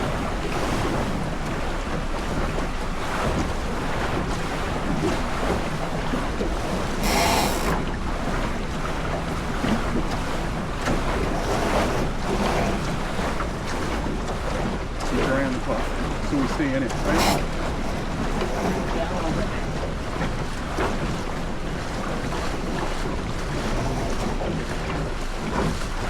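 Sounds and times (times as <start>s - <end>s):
water rushing past hull: 0.0s - 26.0s.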